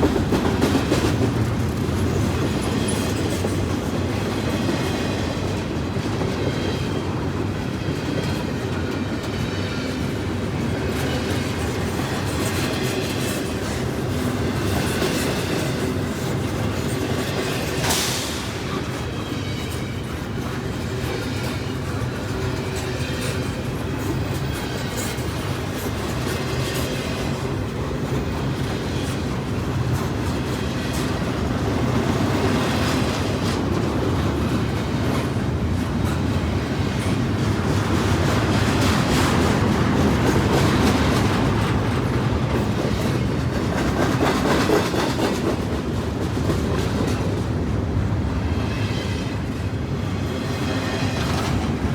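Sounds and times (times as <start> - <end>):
freight train rolling past: 0.0 - 51.9.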